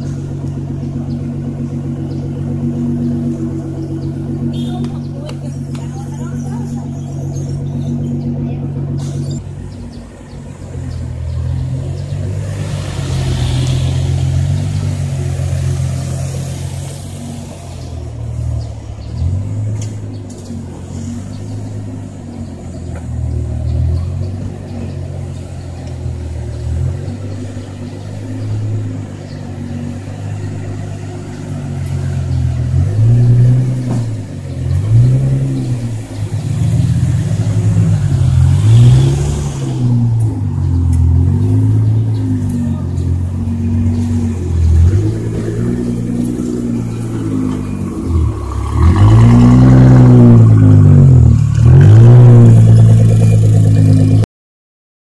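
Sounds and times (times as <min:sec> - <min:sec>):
car engine revving: 0:00.0 - 0:54.3.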